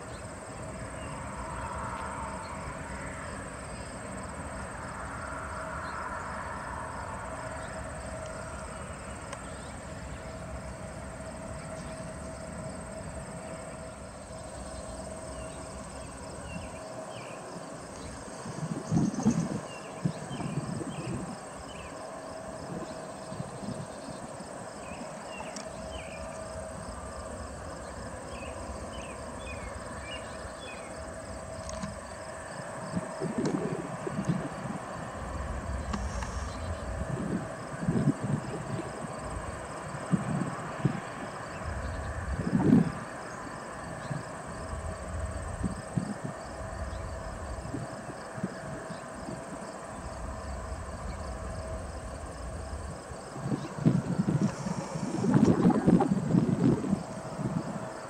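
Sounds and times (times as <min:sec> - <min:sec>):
insects calling: 0:00.0 - 0:58.0.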